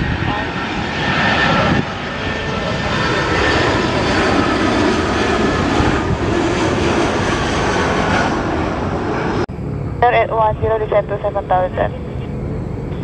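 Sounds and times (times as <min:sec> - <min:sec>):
airliner engine noise: 0:00.0 - 0:13.0.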